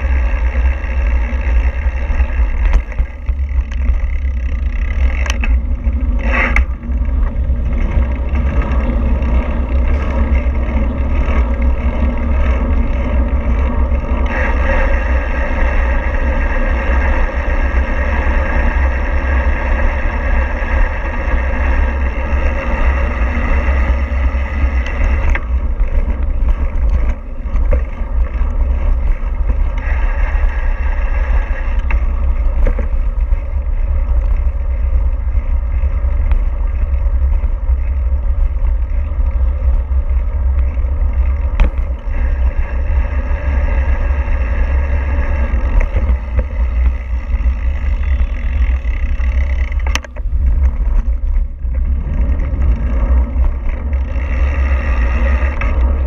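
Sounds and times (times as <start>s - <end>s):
moving vehicle hum and rumble: 0.0s - 56.0s.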